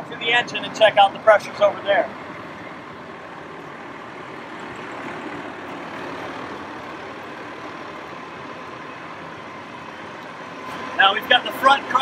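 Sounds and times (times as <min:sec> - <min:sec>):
fire engine pump running: 0:00.0 - 0:12.0.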